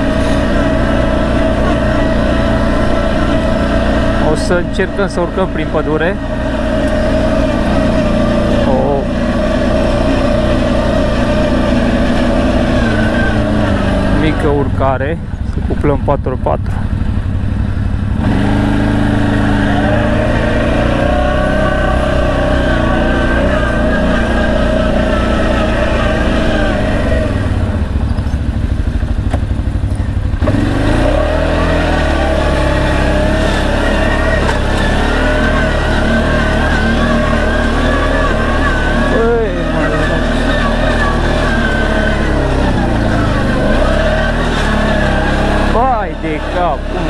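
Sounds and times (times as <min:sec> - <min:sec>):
atv engine running under load: 0:00.0 - 0:47.0.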